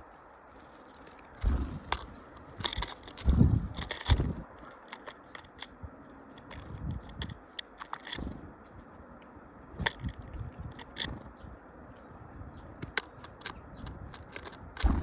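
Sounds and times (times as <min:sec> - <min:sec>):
birds pecking and cracking seeds: 0:00.0 - 0:15.0.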